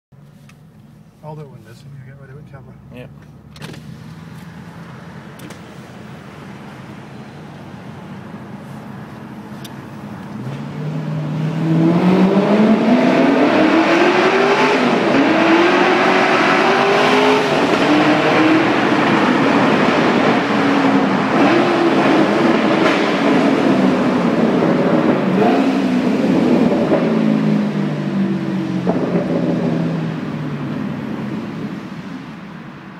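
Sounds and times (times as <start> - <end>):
car engine accelerating hard: 1.8 - 32.5.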